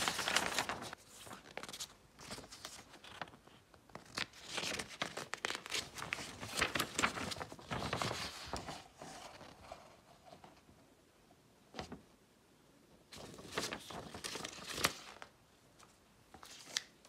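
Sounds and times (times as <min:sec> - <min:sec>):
paper crackling and rustling: 0:00.0 - 0:10.4, 0:13.1 - 0:17.0.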